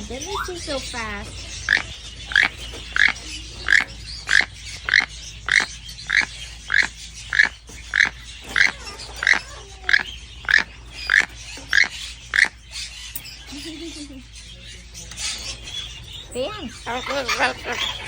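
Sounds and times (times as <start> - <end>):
bird harsh calls: 0.0 - 18.0.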